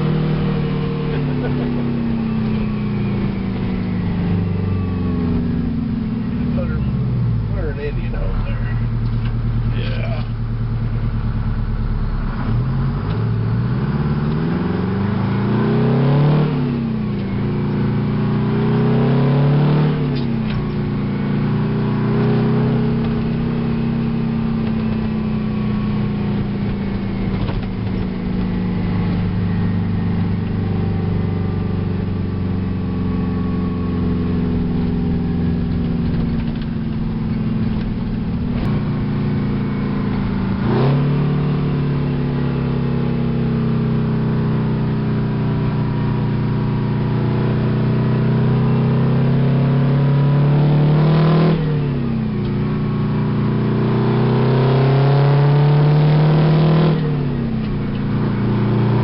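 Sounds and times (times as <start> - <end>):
truck diesel engine under load: 0.0 - 59.0.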